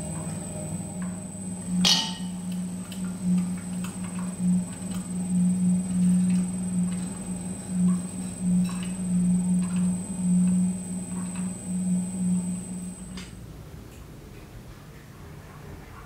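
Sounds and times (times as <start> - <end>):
electric pottery wheel humming: 0.0 - 13.5.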